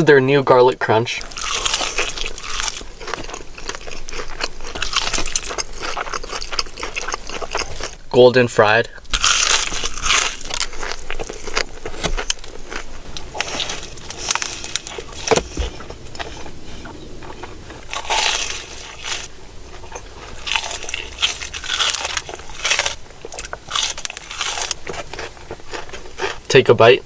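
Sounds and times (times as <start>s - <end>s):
crunching fried chicken: 0.9s - 8.2s, 8.9s - 27.0s
quiet chewing: 1.2s - 8.0s, 8.9s - 26.7s.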